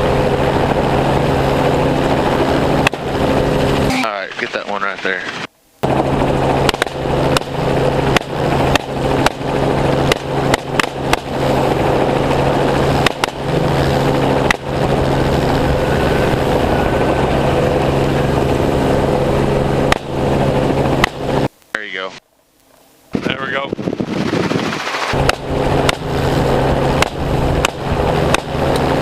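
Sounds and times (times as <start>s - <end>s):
helicopter flying: 0.0s - 22.2s, 23.1s - 29.0s.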